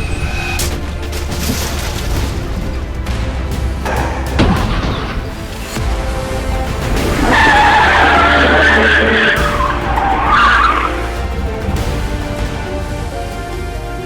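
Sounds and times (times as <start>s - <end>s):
car tyres screeching: 0.0s - 3.0s, 3.6s - 12.1s
background music: 0.0s - 14.0s.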